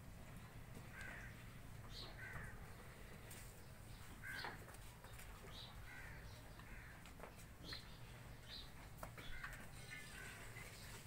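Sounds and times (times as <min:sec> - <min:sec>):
birds calling faintly: 0:00.0 - 0:11.0.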